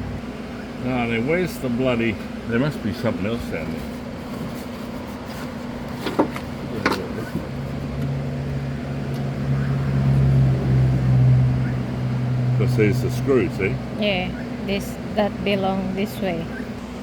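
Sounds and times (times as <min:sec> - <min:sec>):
vehicle engine hum: 0:00.0 - 0:17.0.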